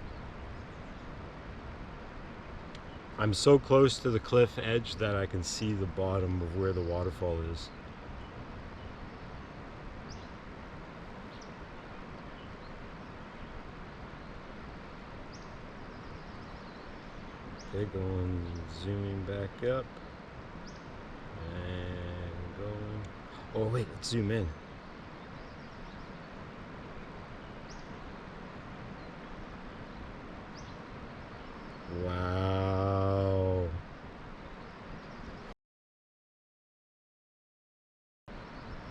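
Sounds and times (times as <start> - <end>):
outdoor background noise: 0.0 - 35.6, 38.3 - 38.9.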